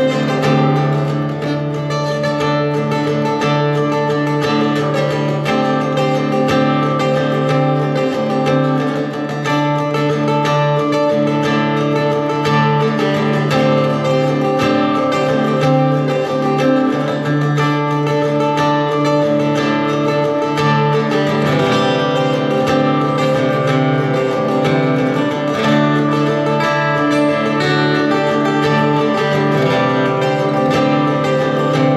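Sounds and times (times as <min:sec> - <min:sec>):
acoustic guitar strumming chords: 0:00.0 - 0:31.9.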